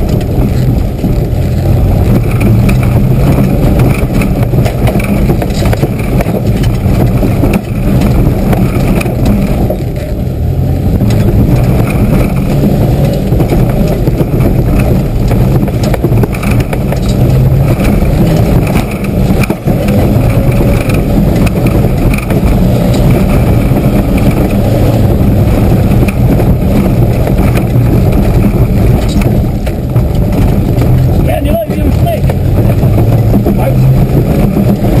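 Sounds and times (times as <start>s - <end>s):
engine running hard under load: 0.0s - 35.0s
road and body noise: 0.0s - 35.0s.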